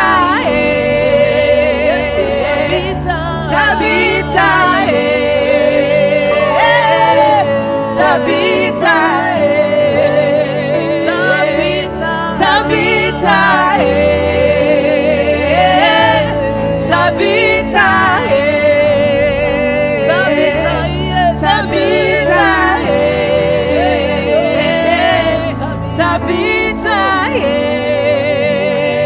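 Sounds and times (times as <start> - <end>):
person singing with vibrato: 0.0 - 29.0
sustained instrumental chords and bass: 0.0 - 29.0.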